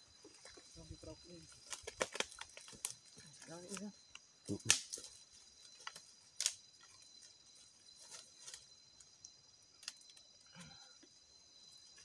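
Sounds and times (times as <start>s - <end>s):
night insects chorus: 0.0s - 12.0s.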